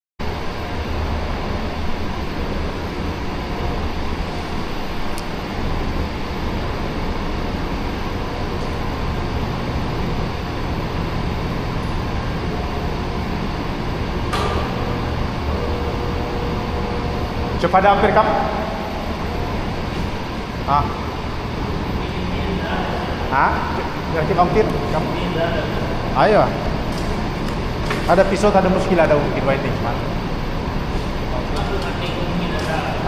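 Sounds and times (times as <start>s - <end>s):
low hum: 0.2s - 33.0s
machinery droning: 0.2s - 33.0s.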